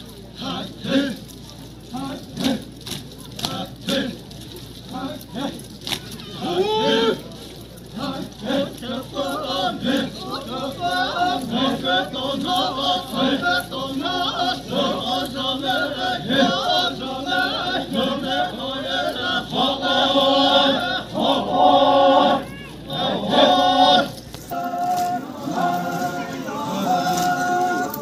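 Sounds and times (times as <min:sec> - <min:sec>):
group chanting folk song: 0:00.0 - 0:28.0.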